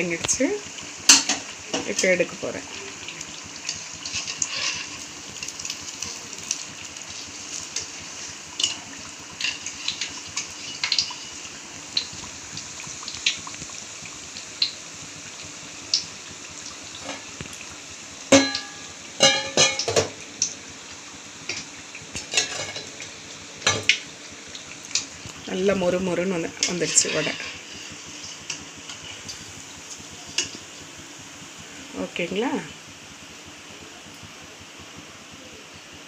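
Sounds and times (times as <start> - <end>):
fritters sizzling in oil: 0.0 - 36.0.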